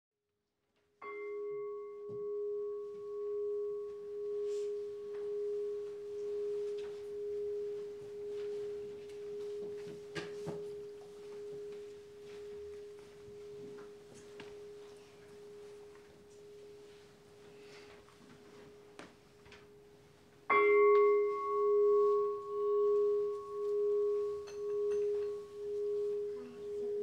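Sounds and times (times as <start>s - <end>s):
bowl bell ringing: 1.0s - 27.0s.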